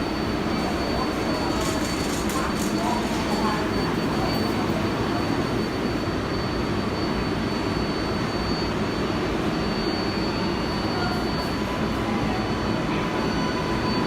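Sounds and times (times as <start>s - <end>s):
subway train noise: 0.0s - 14.0s.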